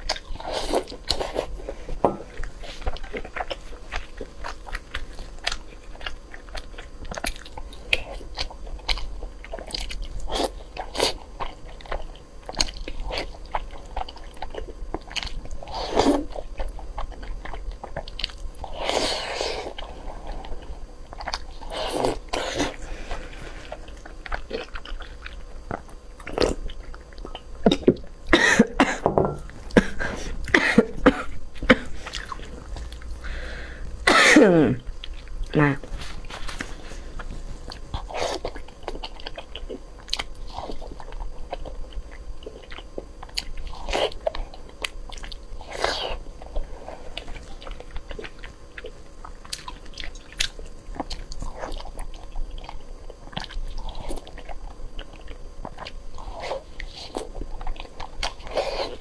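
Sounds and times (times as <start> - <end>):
person chewing sticky food: 0.0 - 59.0.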